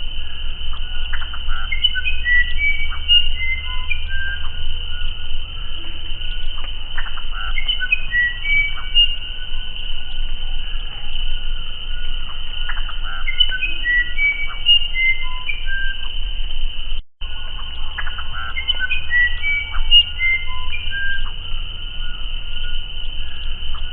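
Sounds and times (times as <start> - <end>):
bird singing whistled notes: 0.0 - 23.9.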